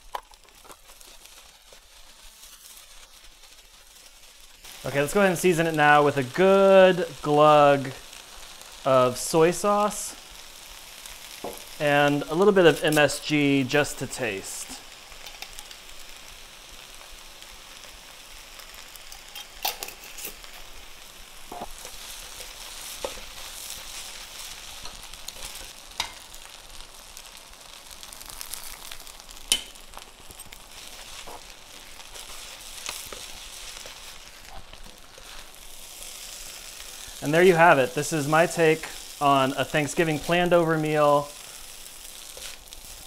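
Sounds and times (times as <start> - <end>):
rice sizzling in a wok: 0.0 - 43.0.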